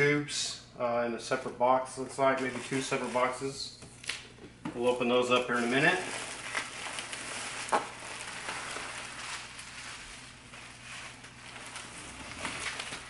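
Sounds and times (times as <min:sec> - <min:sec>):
bubble wrap crinkling: 0:02.3 - 0:13.0.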